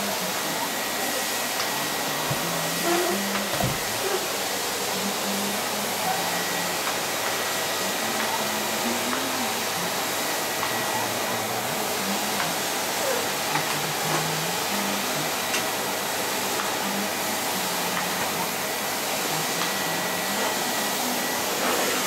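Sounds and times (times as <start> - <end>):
vacuum cleaner on tiled floor: 0.0 - 22.0.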